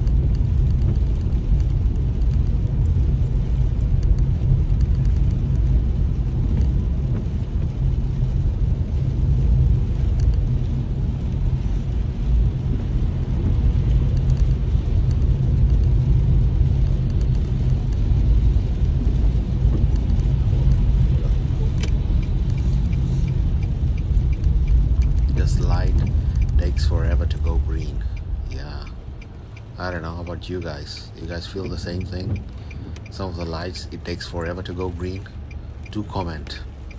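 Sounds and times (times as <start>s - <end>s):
car engine rumble: 0.0s - 36.9s
road noise: 0.0s - 36.9s.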